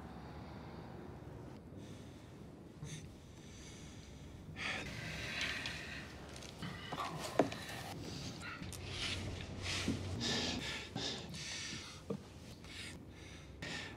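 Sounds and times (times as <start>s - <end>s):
soft breathing: 0.0s - 13.9s.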